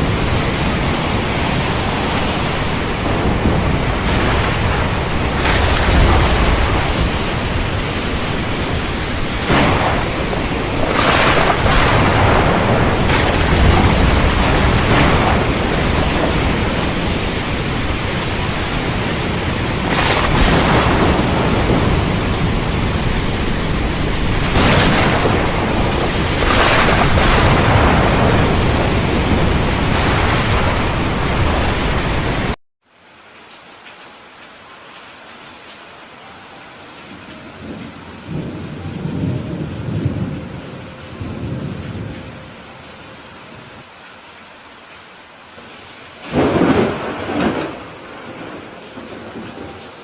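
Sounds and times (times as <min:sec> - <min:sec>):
rolling thunder: 0:00.0 - 0:32.6, 0:37.6 - 0:42.6, 0:46.2 - 0:50.0
heavy rain: 0:00.0 - 0:50.0.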